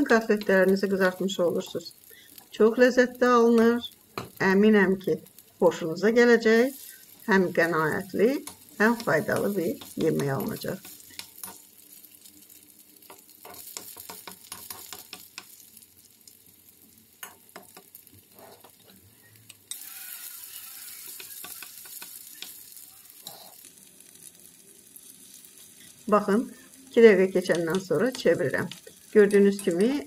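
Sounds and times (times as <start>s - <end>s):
patties sizzling in oil: 0.0s - 30.0s.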